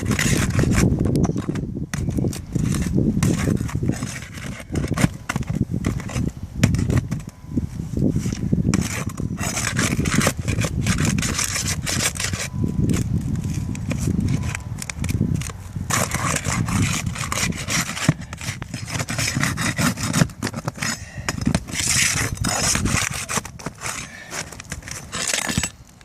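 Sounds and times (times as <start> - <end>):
scraping and clicking on roof: 0.0 - 7.4, 8.2 - 25.7.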